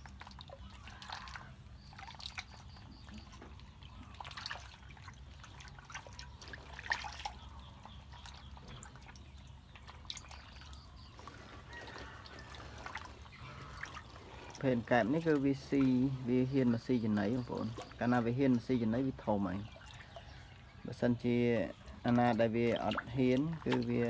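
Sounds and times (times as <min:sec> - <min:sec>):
small clicks and splashes: 0:00.0 - 0:24.0
water dripping and trickling: 0:00.0 - 0:24.0.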